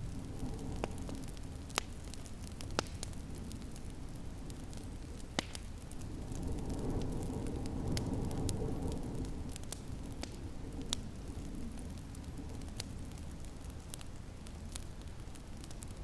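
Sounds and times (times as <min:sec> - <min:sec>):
sharp pops of fire: 0:00.0 - 0:16.0
wood fire crackling: 0:00.0 - 0:16.0.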